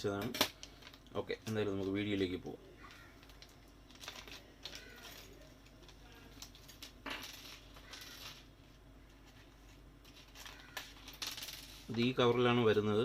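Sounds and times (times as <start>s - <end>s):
plastic packaging rustling: 0.4s - 12.6s.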